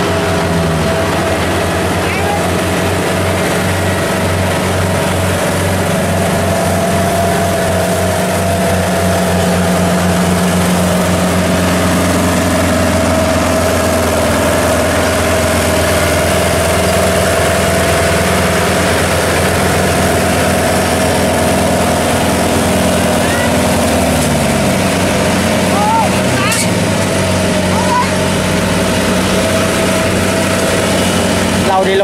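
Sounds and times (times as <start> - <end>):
engines running under load: 0.0 - 32.0.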